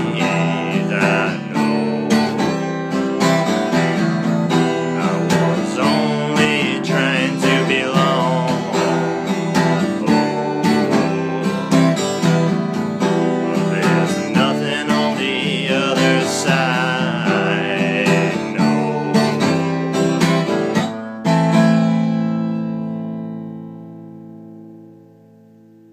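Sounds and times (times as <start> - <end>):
strummed acoustic guitar: 0.0 - 25.9.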